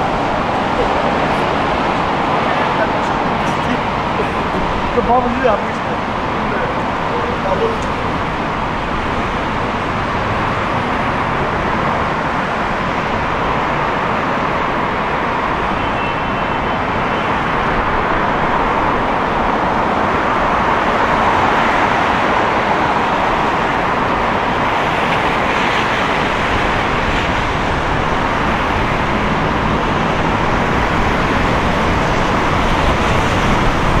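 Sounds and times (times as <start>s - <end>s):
city road traffic: 0.0s - 34.0s.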